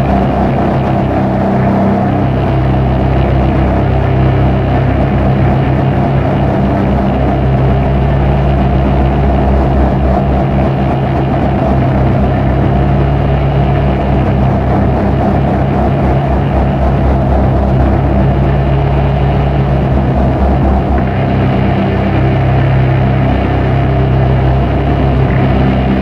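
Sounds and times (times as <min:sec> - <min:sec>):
dark ambient drone music: 0:00.0 - 0:26.0.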